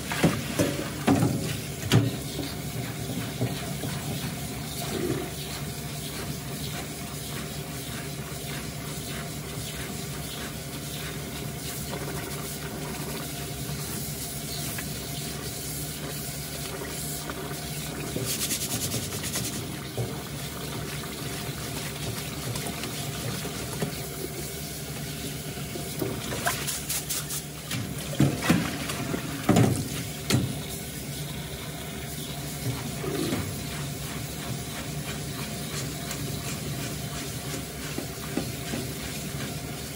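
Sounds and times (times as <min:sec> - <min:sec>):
water splashes and bumps: 0:00.0 - 0:13.4, 0:16.1 - 0:39.9
tap water running into a pot: 0:00.0 - 0:39.9.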